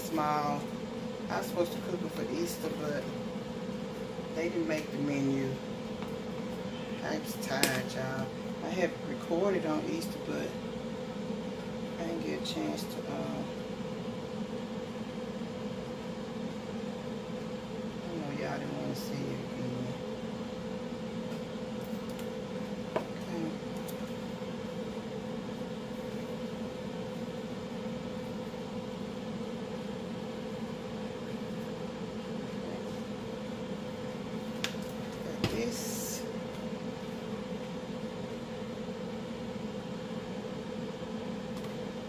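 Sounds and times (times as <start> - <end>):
appliance humming: 0.0 - 42.0.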